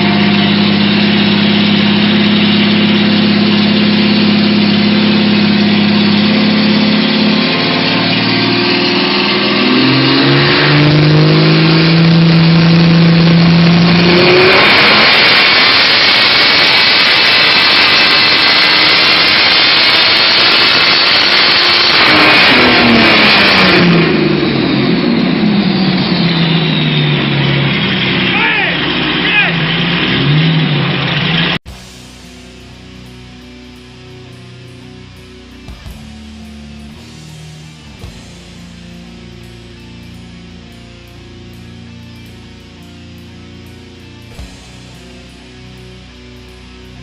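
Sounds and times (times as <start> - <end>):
supercharged car engine revving: 0.0 - 47.0.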